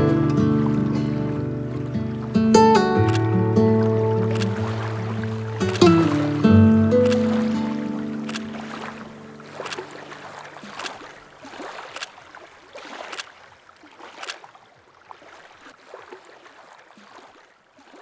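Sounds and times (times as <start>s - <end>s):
water lapping: 0.0s - 18.0s
water splashing rhythmically: 0.0s - 18.0s.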